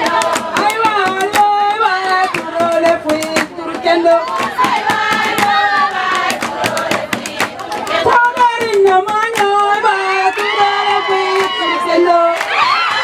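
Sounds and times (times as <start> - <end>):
sharp percussive beat: 0.0 - 11.0
women singing: 0.0 - 13.0.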